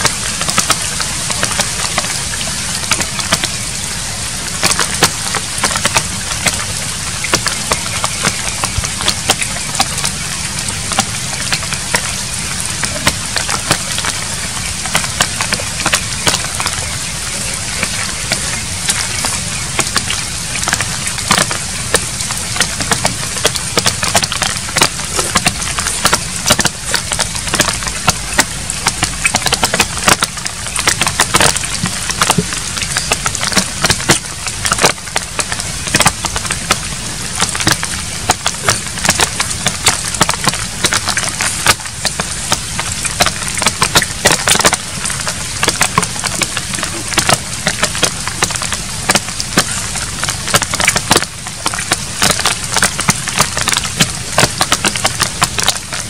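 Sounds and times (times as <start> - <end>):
man chewing with clicks and smacks: 4.5 - 56.0.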